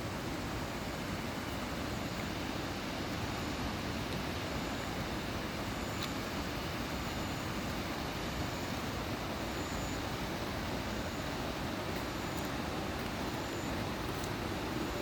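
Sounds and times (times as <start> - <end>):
stream rushing: 0.0 - 15.0.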